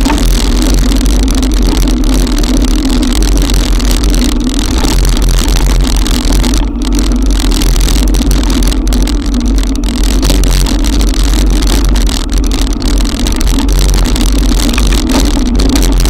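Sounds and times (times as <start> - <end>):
heavy rain: 0.0 - 16.0
wind buffeting microphone: 0.0 - 16.0.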